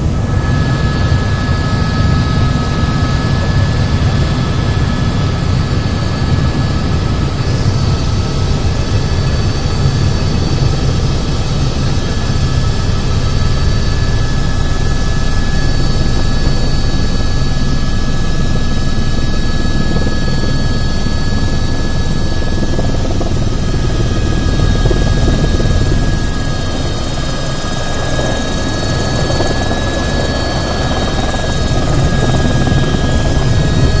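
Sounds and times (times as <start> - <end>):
helicopter rotor beat: 0.0 - 34.0
turbine whine: 0.0 - 34.0.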